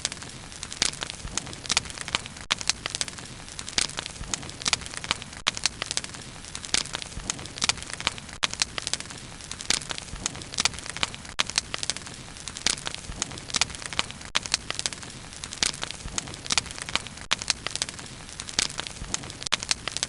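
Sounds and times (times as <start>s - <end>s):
fire crackling and popping: 0.0s - 20.0s
rush of flame: 0.0s - 20.0s.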